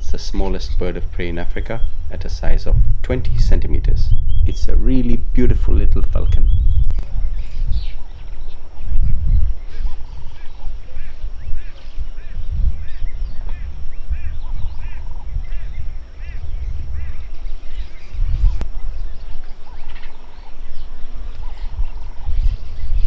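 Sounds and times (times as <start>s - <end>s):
wild birds chirping: 0.0s - 23.0s.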